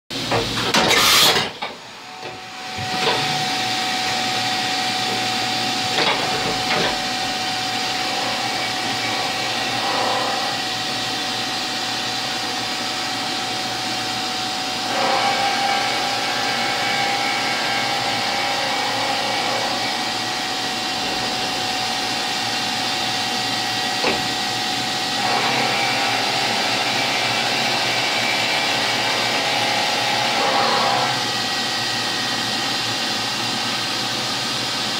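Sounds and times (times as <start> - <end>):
milling machine spindle whine: 1.0 - 34.9.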